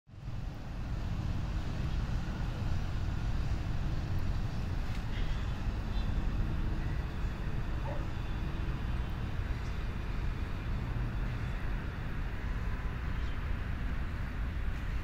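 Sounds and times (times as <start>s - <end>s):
distant road traffic rumble: 0.1s - 15.0s.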